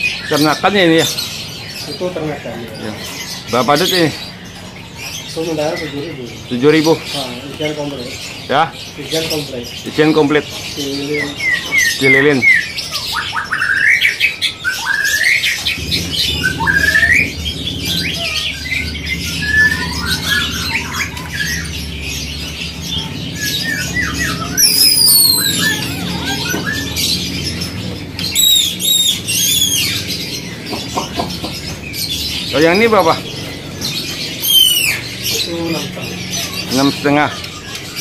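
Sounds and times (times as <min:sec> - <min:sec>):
songbirds calling and singing: 0:00.0 - 0:38.0.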